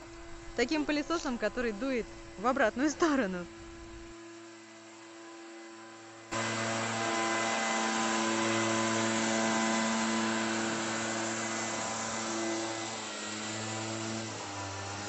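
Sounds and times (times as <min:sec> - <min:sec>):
leaf blower engine: 0:00.0 - 0:15.0.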